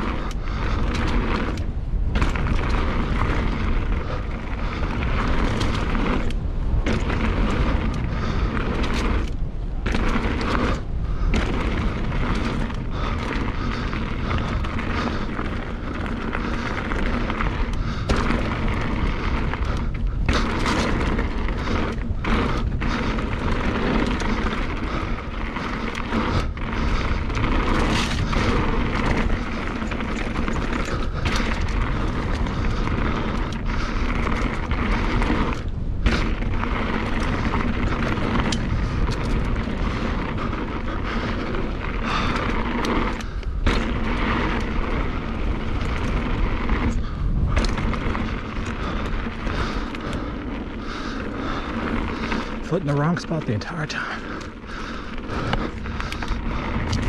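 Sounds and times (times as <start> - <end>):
bike tyres and rattling: 0.0 - 57.0
wind rumbling on microphone: 0.0 - 57.0.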